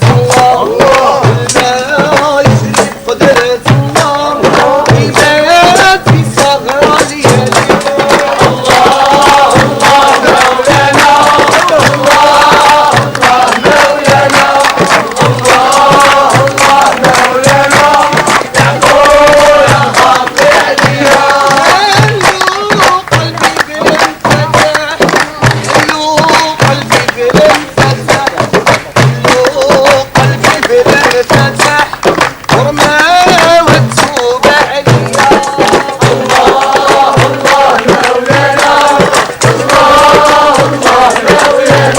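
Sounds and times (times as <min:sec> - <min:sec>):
group of voices chanting: 0:00.0 - 0:41.9
steady percussive beat: 0:00.0 - 0:41.9.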